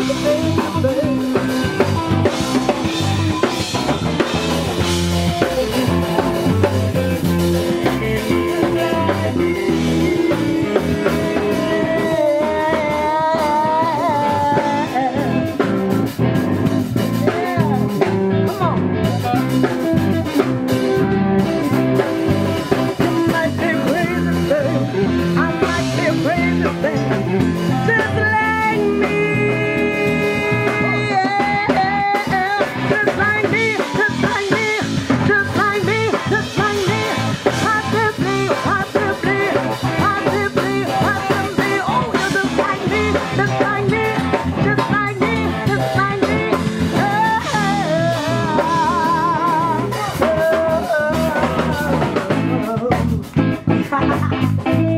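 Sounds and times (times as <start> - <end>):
woman singing: 0.0 - 3.7, 4.8 - 15.7, 22.5 - 54.9
drum kit: 0.0 - 54.9
electric guitars: 0.0 - 54.9.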